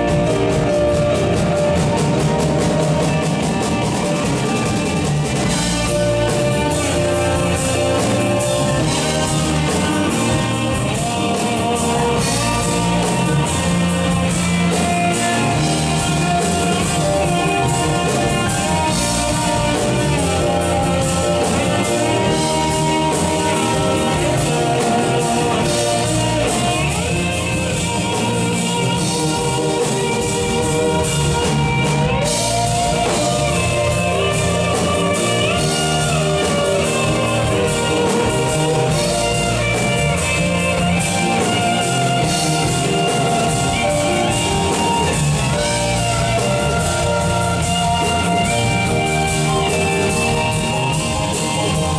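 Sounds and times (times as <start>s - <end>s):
electric guitar lead with bent notes: 0.0s - 51.9s
live rock band playing: 0.0s - 51.9s.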